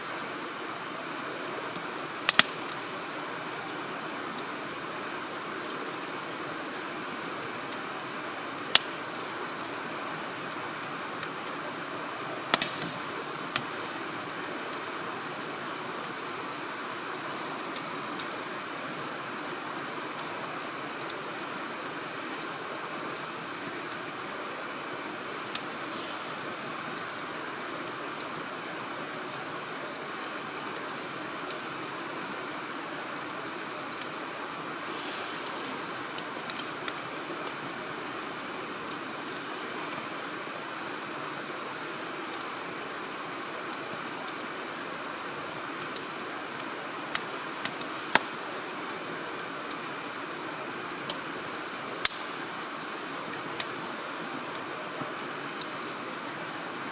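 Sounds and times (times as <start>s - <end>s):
fire hissing: 0.0s - 22.5s, 23.2s - 28.5s, 32.7s - 40.0s, 44.6s - 49.4s, 50.1s - 56.3s
fire crackling and popping: 0.0s - 56.9s.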